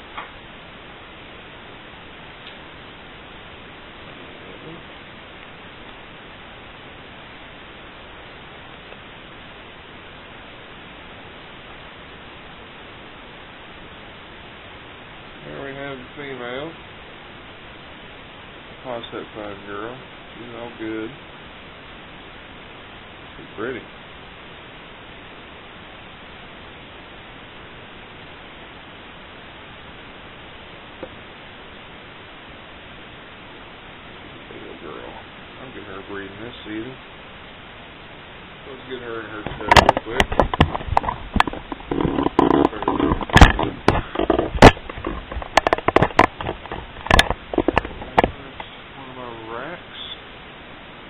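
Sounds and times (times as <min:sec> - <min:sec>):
steady background hiss: 0:00.0 - 0:51.0.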